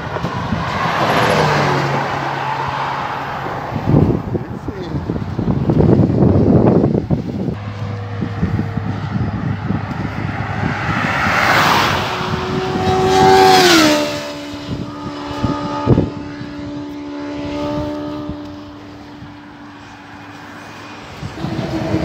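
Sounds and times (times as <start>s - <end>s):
vehicles passing at highway speed: 0.0s - 22.0s.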